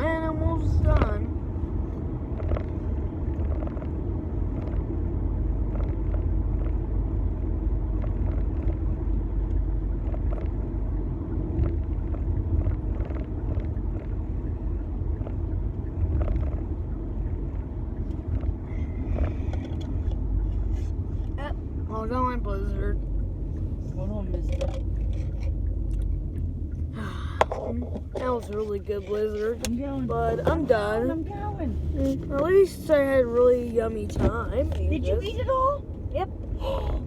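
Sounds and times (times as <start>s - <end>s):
car cabin road rumble: 0.0s - 37.0s.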